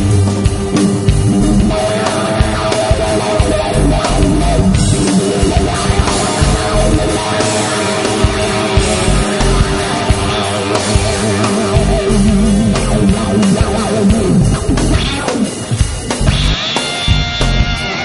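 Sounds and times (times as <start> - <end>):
loud hard rock music: 0.0 - 18.0.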